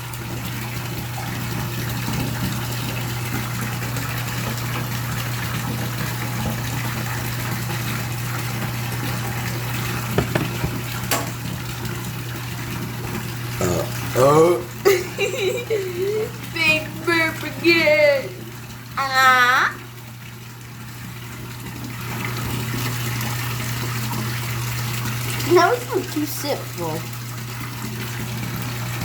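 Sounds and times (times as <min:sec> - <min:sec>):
water running: 0:00.0 - 0:29.0.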